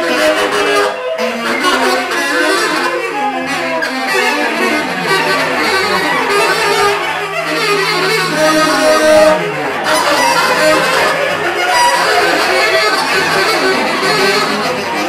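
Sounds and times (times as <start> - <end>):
bowed cello: 0.0 - 15.0
tenor saxophones playing: 0.0 - 15.0.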